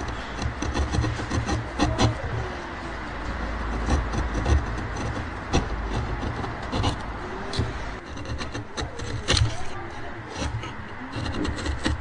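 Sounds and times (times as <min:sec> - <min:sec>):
chisel scraping through wood: 0:00.0 - 0:12.0
low steady rumble: 0:00.0 - 0:12.0.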